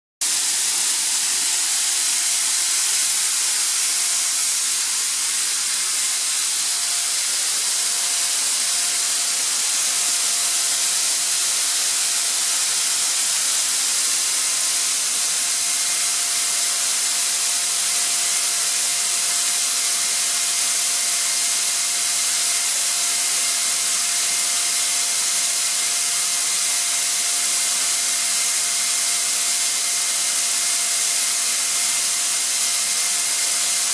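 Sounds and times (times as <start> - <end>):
air compressor hissing: 0.2 - 33.9.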